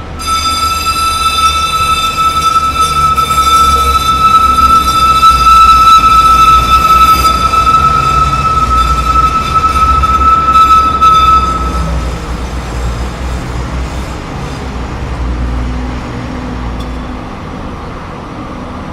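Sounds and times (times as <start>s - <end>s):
train wheels squealing on rails: 0.0s - 15.2s
train rumble: 0.0s - 18.9s.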